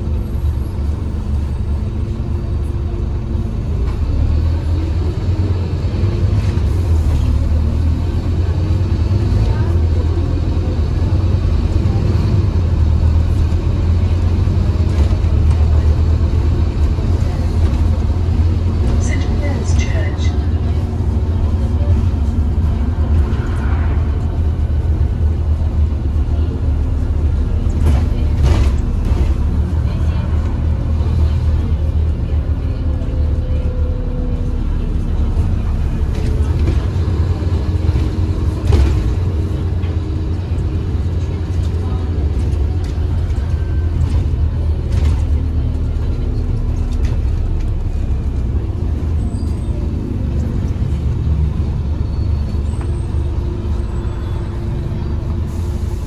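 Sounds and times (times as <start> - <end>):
bus engine rumble: 0.0 - 56.0
road noise: 0.0 - 56.0.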